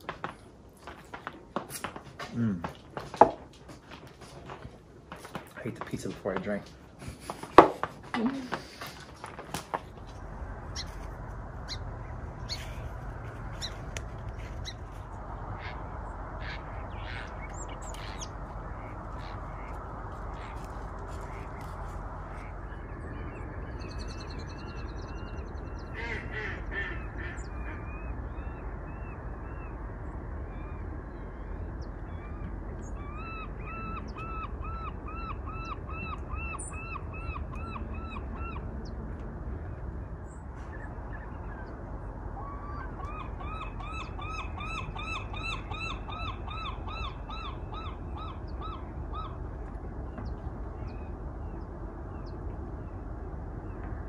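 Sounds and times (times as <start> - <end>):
steady low rumble: 0.0 - 54.0
other bird calls: 7.0 - 29.8, 30.5 - 39.0, 40.3 - 52.9.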